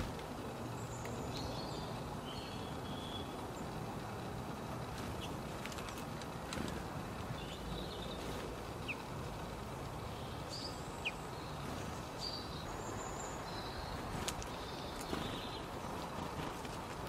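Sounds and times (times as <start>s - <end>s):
low outdoor background noise: 0.0s - 17.0s
small birds chirping: 0.0s - 17.0s.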